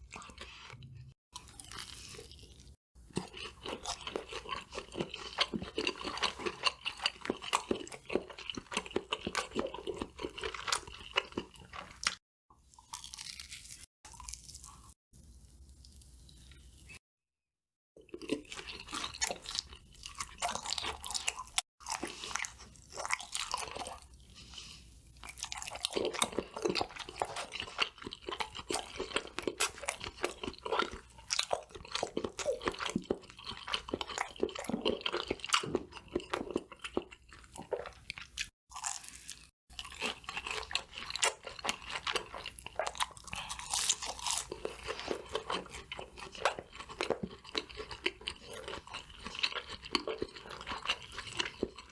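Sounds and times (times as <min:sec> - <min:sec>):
crunching of crispy fried food: 0:01.4 - 0:15.0, 0:18.0 - 0:51.9.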